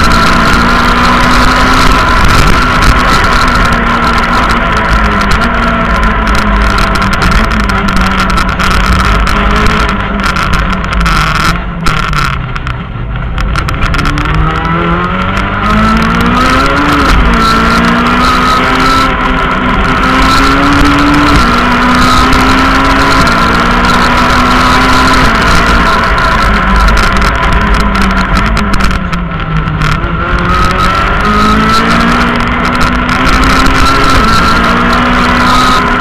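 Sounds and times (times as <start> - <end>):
rally car engine accelerating: 0.0 - 36.0
road and tyre noise: 0.0 - 36.0.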